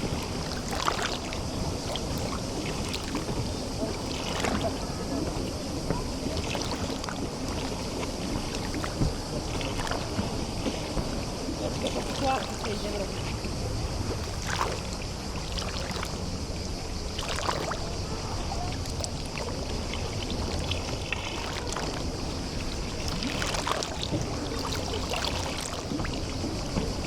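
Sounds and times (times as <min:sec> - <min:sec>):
small waves lapping at shore: 0:00.0 - 0:27.0
water splashes: 0:00.0 - 0:27.0.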